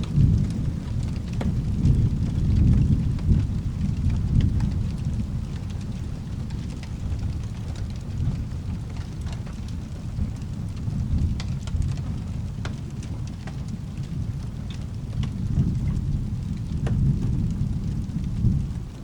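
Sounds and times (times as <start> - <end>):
rain: 0.0 - 19.0
rolling thunder: 0.0 - 19.0
sharp crackles and ticks: 0.0 - 19.0.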